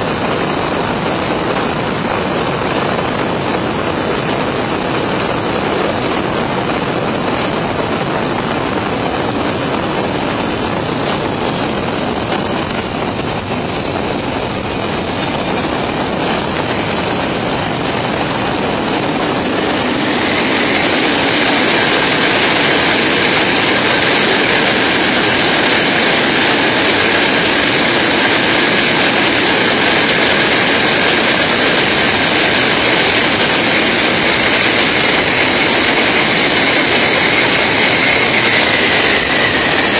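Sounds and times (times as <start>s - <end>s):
jet engine noise: 0.0s - 39.9s
rushing airflow: 0.0s - 39.9s.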